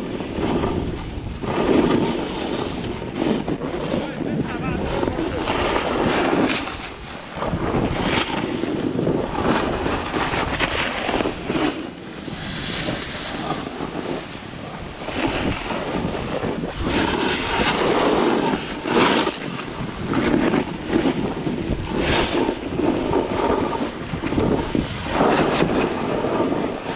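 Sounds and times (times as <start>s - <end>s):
skis scraping through snow: 0.0s - 26.9s
wind buffeting microphone: 0.0s - 26.9s.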